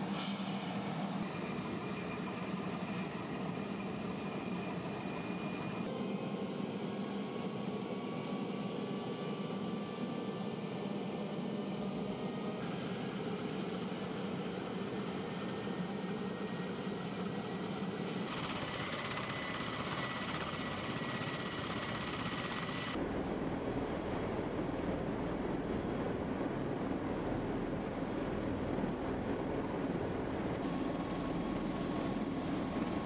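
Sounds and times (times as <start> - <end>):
turboshaft engines whining: 0.0 - 33.0.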